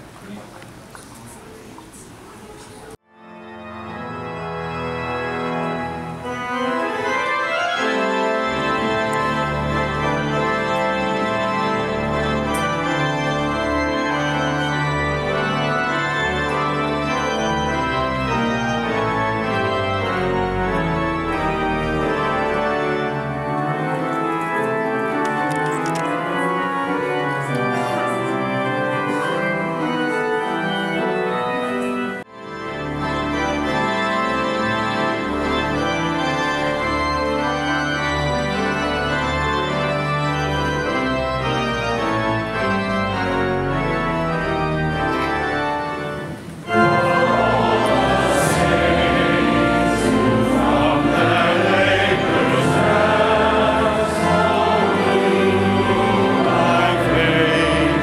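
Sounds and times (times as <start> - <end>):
church organ playing chords: 3.1 - 58.0.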